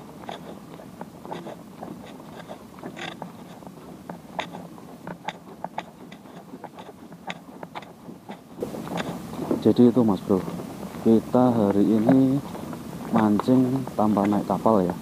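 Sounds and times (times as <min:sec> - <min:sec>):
footsteps on concrete: 0:00.0 - 0:15.0
low outdoor background: 0:00.0 - 0:15.0.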